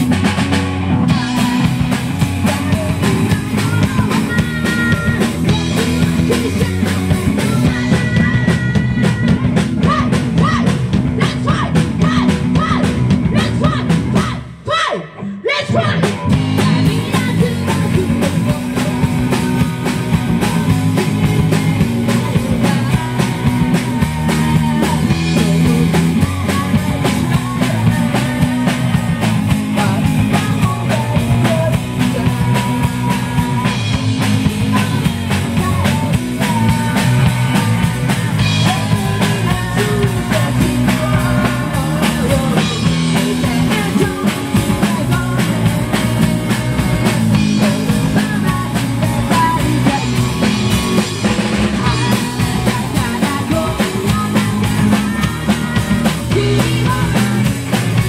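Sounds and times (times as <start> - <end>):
live rock band: 0.0 - 58.0
woman singing into microphone: 1.1 - 58.0.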